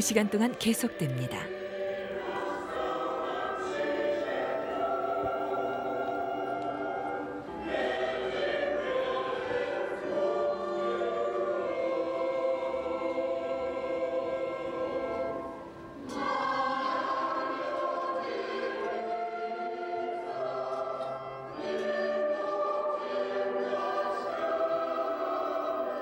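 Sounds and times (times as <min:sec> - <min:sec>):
choir singing a hymn: 0:00.0 - 0:26.0.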